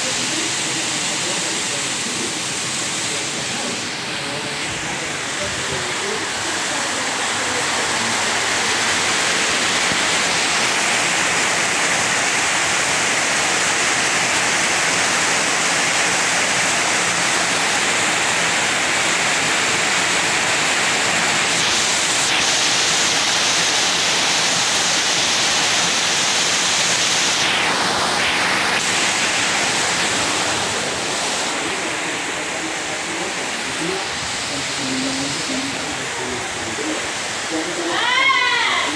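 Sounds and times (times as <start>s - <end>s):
heavy rain rushing: 0.0s - 38.9s.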